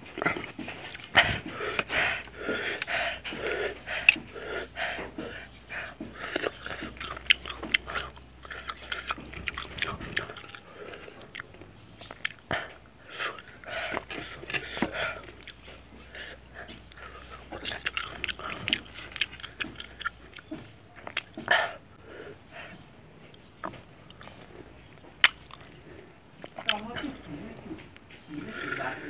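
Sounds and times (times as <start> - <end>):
wet chewing sounds: 0.0 - 29.0.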